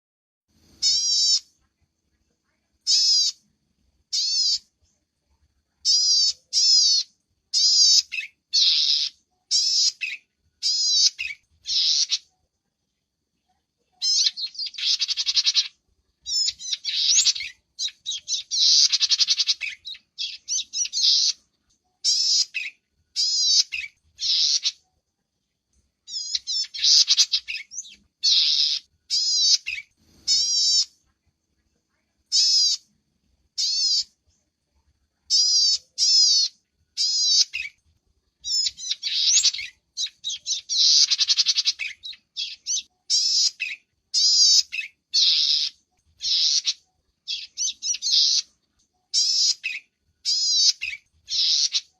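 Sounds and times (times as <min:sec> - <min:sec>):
songbird chirping and trilling: 0:00.6 - 0:51.9.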